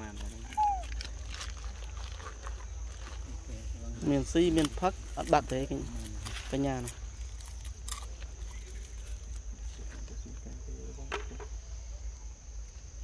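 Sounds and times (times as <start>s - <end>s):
high-pitched insect drone: 0.0s - 12.6s.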